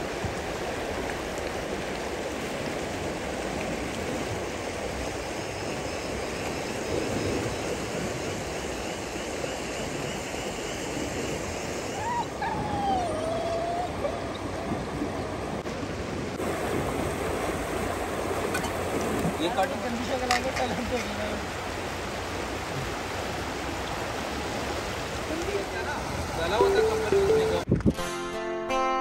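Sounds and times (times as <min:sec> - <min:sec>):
river water rushing: 0:00.0 - 0:27.7.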